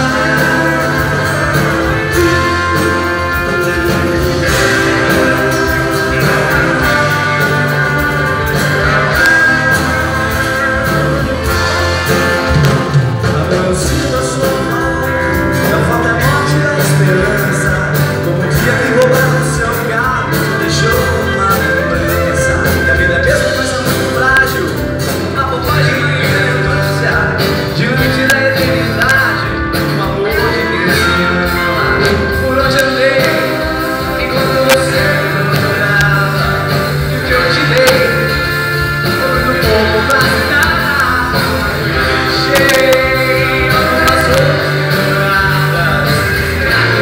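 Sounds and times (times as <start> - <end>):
live pop-rock band playing: 0.0 - 47.0.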